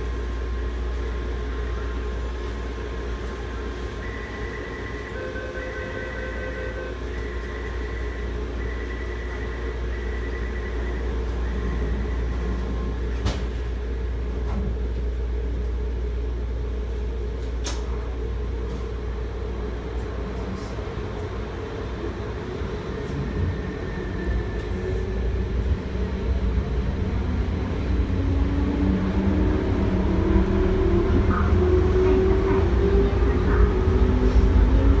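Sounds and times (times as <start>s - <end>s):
train interior rumble and hum: 0.0s - 35.0s.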